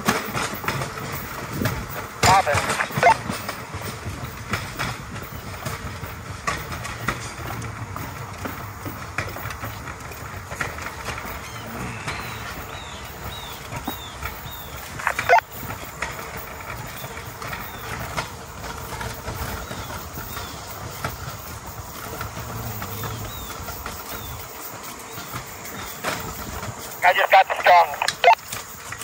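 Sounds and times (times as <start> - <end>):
clicks over rail joints: 0.0 - 27.0
steel wheels rolling on track: 0.0 - 27.0, 28.4 - 29.0.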